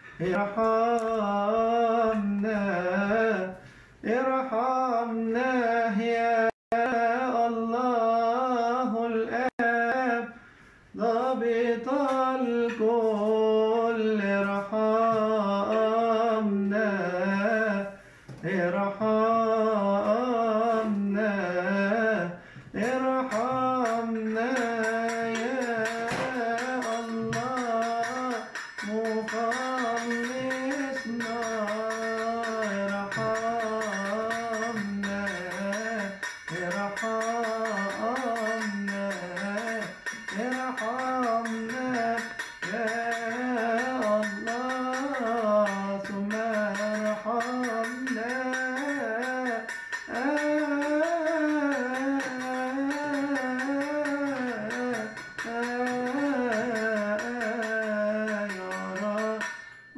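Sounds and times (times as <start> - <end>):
man chanting a hymn: 11.0 - 59.4.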